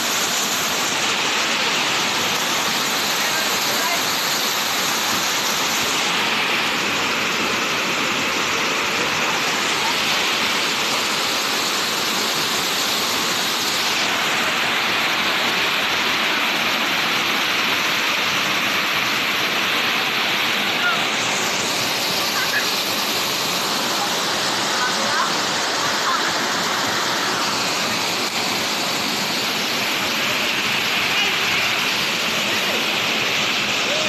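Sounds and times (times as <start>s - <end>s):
waterfall rushing into a pool: 0.0s - 34.0s.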